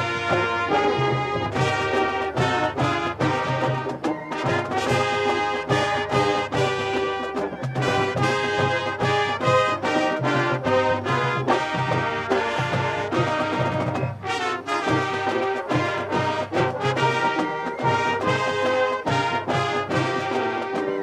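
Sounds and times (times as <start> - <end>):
brass section playing: 0.0 - 21.0
drums keeping a steady beat: 0.0 - 21.0.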